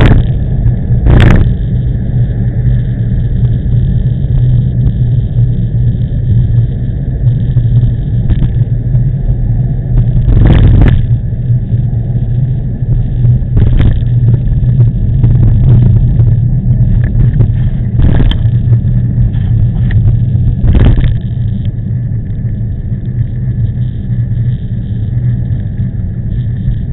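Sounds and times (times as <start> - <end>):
strong wind buffeting microphone: 0.0 - 26.9.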